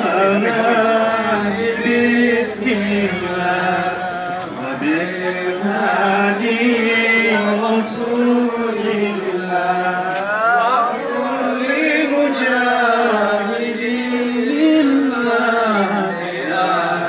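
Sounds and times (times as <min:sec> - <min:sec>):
voices chanting devotional song: 0:00.0 - 0:17.0.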